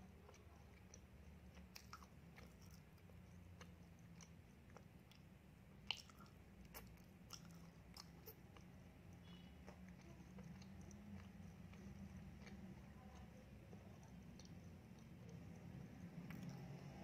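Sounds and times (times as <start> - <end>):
chewing with mouth clicks: 0.0 - 17.0.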